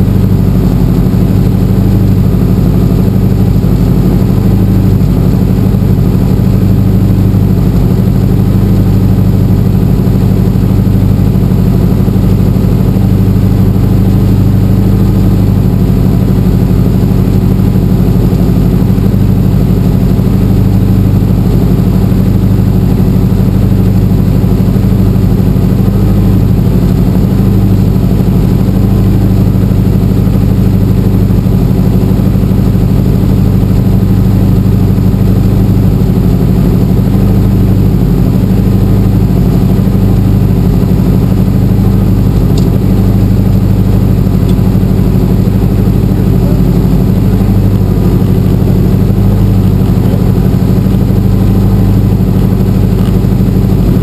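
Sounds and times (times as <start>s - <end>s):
helicopter engine and rotor running: 0.0s - 54.0s.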